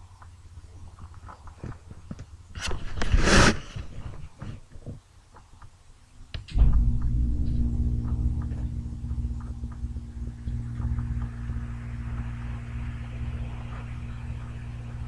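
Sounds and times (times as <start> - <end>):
faint hiss: 0.0 - 15.0
low mechanical hum: 0.0 - 15.0.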